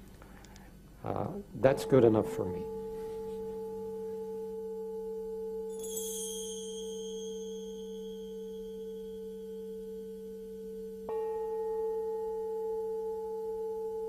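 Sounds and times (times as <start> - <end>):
high ringing tone: 1.6 - 14.0.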